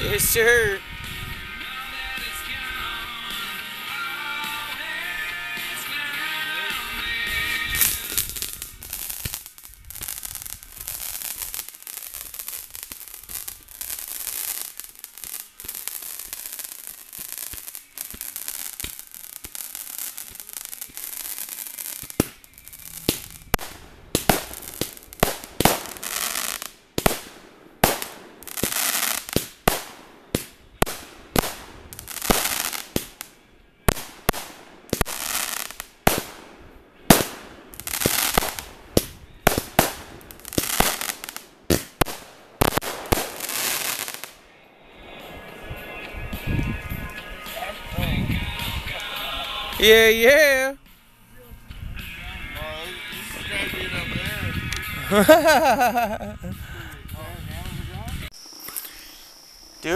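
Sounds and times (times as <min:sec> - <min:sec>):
fireworks cracking and popping: 0:00.0 - 0:02.6, 0:04.4 - 0:50.8, 0:52.6 - 0:59.9
fireworks hissing: 0:00.0 - 0:50.8, 0:52.6 - 0:59.9.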